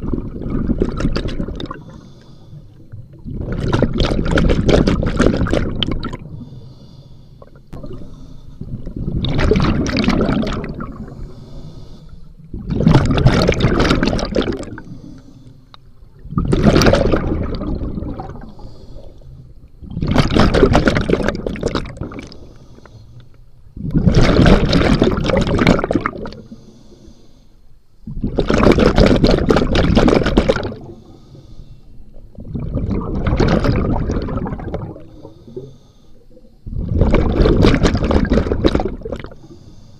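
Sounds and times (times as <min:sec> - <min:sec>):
underwater breath bubbles: 0:00.0 - 0:27.4, 0:28.0 - 0:39.9.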